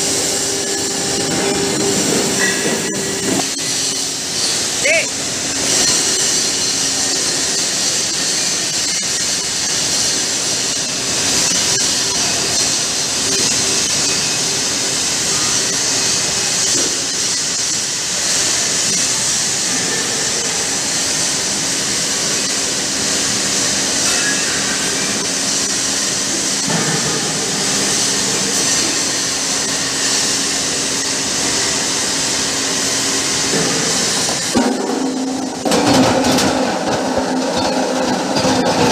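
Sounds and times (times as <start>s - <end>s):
loud steady hiss: 0.0s - 38.9s.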